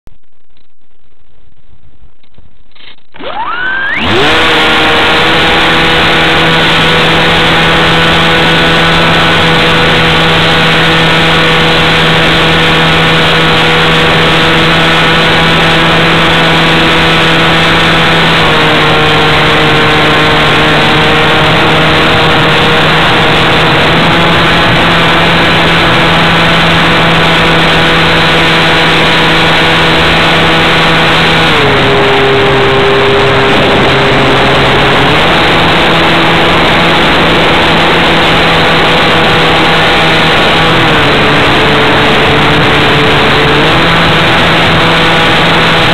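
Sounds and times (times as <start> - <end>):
model airplane motor whining: 3.1 - 45.9.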